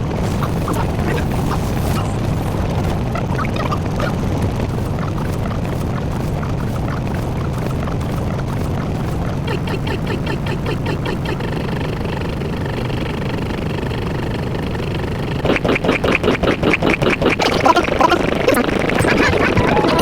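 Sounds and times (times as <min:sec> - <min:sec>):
engine-like rumble pulsing: 0:00.0 - 0:16.6.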